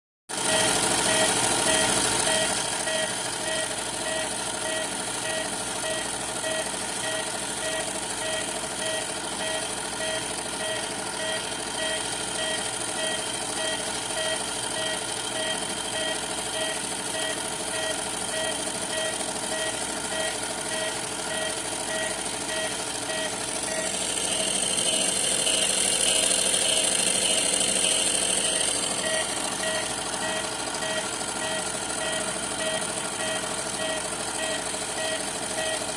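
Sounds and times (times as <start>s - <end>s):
washing machine spinning: 0.3s - 35.9s.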